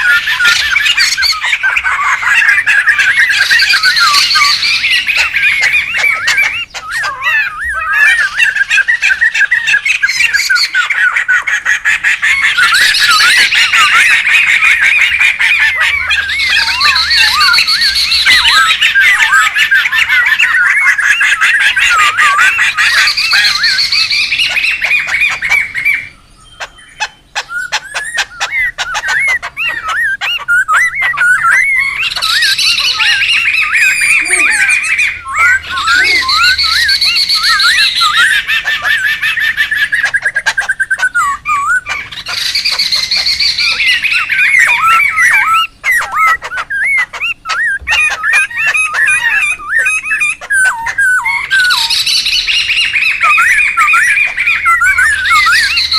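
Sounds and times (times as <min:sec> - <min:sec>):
birds calling in chorus: 0:00.0 - 0:55.9
rapid rattling bird chatter: 0:00.0 - 0:55.9.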